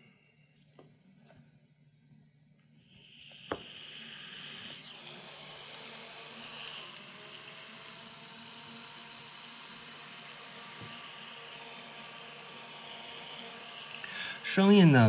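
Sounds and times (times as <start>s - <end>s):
small cooling fan whirring: 0.0s - 15.0s.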